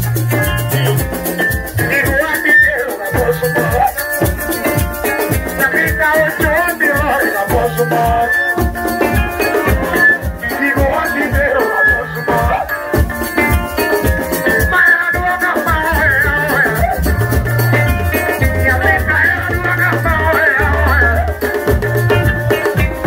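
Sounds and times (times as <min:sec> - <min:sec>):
bass and drums: 0:00.0 - 0:23.0
electric keyboards: 0:00.0 - 0:23.0
tambourine jingling: 0:00.0 - 0:23.0.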